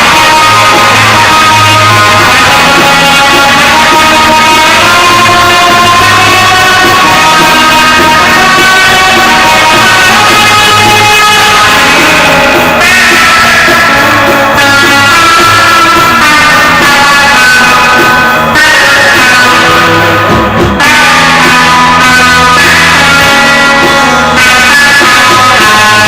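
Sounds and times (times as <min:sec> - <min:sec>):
rock band with guitars: 0:00.0 - 0:26.0.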